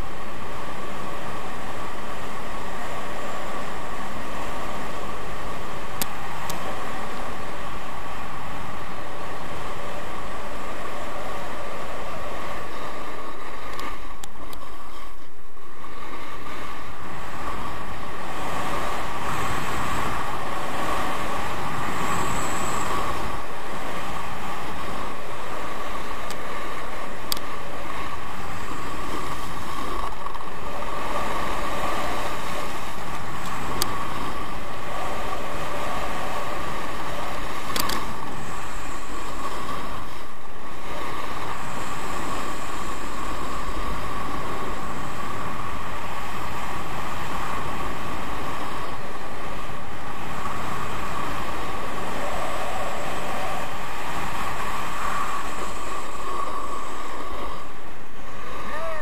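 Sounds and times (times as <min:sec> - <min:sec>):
skis sliding over snow: 0:00.0 - 0:59.0
wind rushing over microphone: 0:00.0 - 0:59.0.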